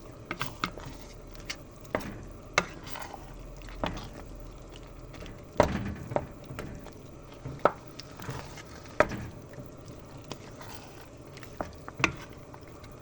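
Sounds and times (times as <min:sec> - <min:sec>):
thick curry being stirred: 0:00.0 - 0:13.0.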